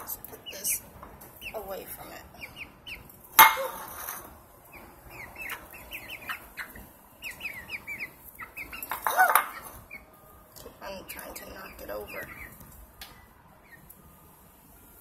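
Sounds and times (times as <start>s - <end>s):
hens chirping and clucking: 0.0s - 15.0s.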